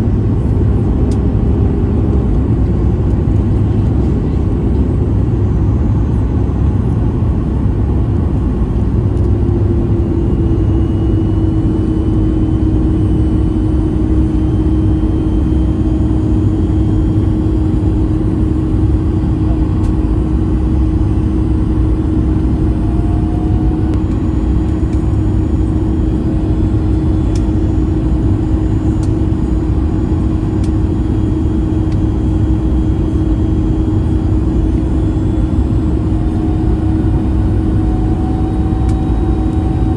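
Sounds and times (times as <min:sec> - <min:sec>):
airflow rush and engine drone: 0:00.0 - 0:39.9
steady hum: 0:00.0 - 0:39.9.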